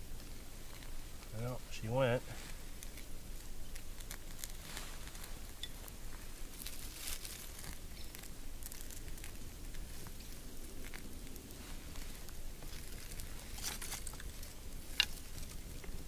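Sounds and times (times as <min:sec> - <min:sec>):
steady low rumble: 0:00.0 - 0:16.0
tinder crackling: 0:00.0 - 0:16.0.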